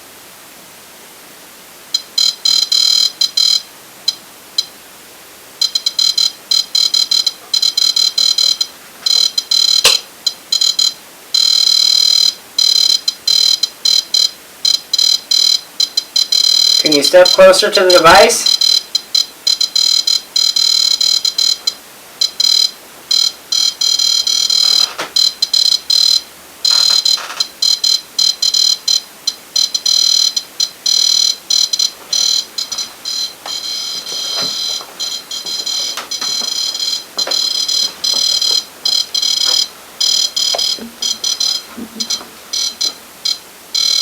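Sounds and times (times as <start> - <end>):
electronic alarm beeping: 2.0 - 4.7, 5.6 - 44.0.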